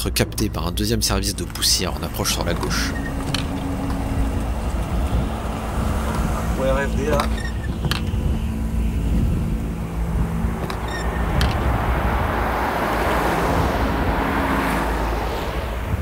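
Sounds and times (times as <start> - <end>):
cars passing on highway: 0.0 - 16.0
steady low rumble: 0.0 - 16.0.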